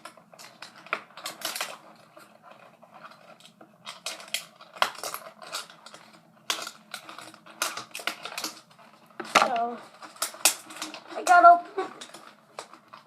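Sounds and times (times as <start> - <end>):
plastic blister packaging crinkling: 0.0 - 13.0.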